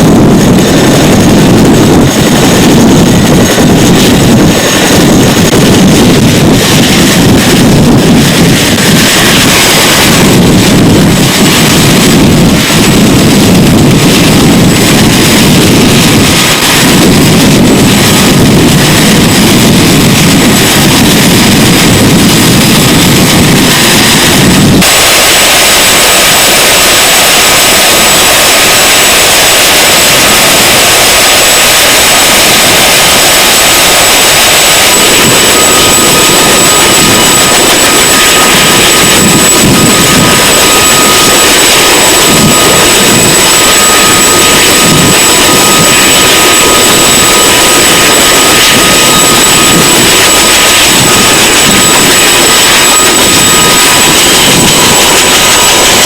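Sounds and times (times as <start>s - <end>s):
helicopter engines and rotors: 0.0s - 56.0s.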